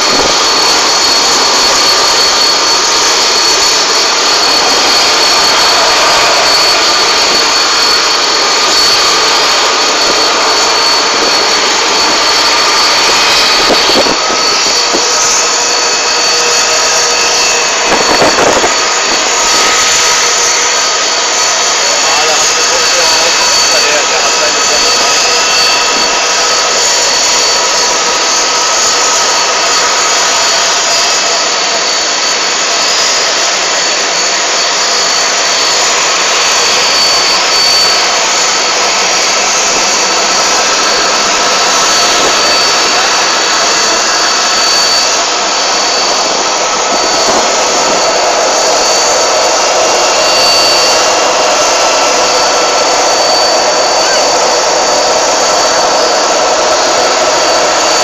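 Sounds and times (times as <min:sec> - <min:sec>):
jet turbines whining: 0:00.0 - 0:58.0.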